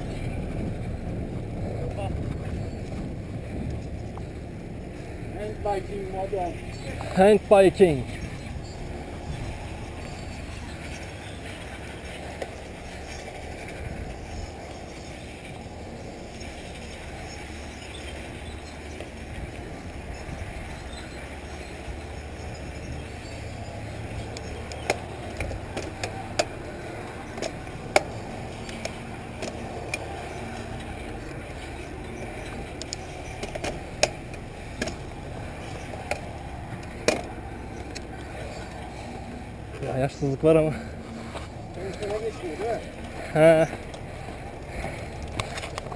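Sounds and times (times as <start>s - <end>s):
bike tyres rumbling on gravel: 0.0s - 45.9s.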